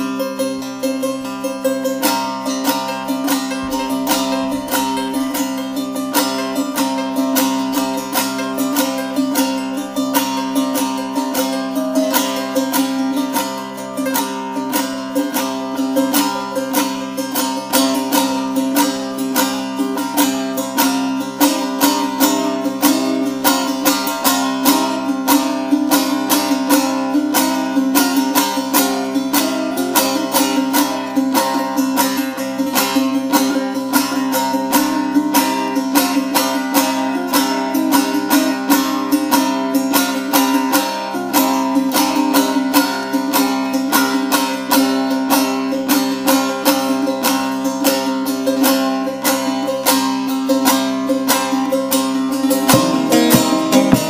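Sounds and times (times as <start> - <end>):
long-necked lutes playing folk music: 0.0 - 54.0.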